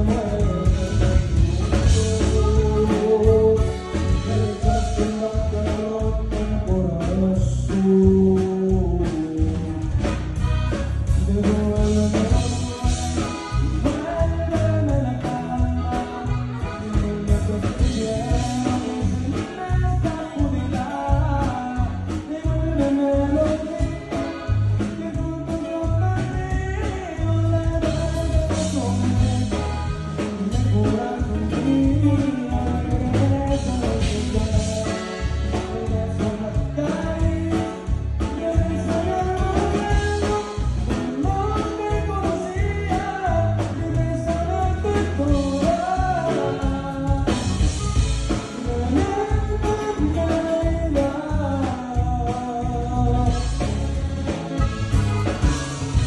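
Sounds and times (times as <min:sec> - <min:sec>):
bass and drums beat: 0:00.0 - 0:56.0
button accordion melody: 0:00.0 - 0:56.0.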